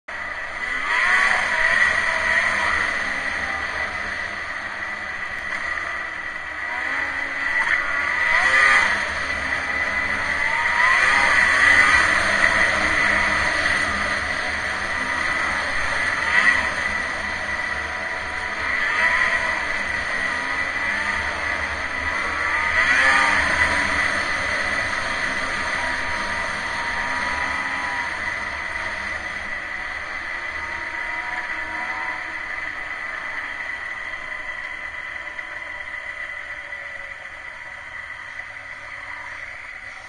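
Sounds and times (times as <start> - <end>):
snowmobile engine under throttle: 0.0 - 40.0
steady high whine: 0.1 - 40.0.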